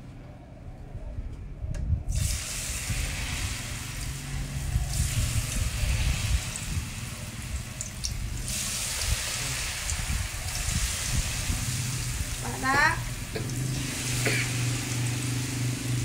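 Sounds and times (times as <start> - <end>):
battered slices sizzling in oil: 2.2 - 16.0.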